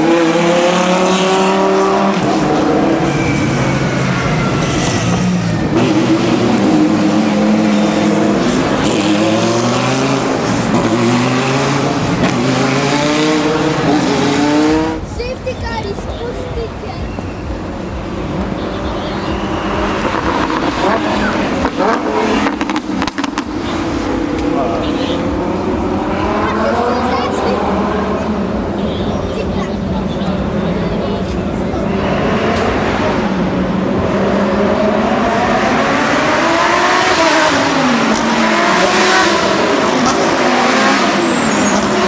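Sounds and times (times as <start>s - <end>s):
race car engine at speed: 0.0s - 42.0s.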